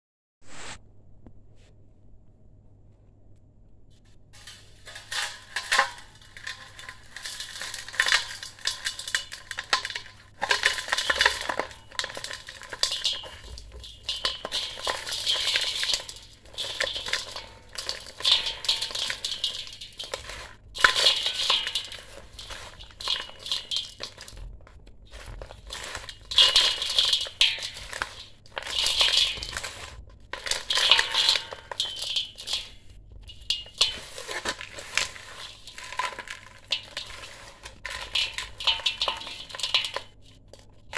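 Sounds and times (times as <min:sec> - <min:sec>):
dry sand cement crunching: 0:04.4 - 0:40.9.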